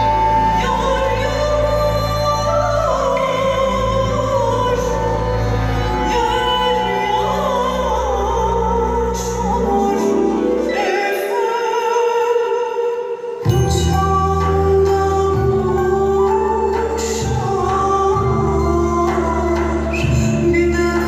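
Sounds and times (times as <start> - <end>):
ornamented sung melody: 0.0 - 21.0.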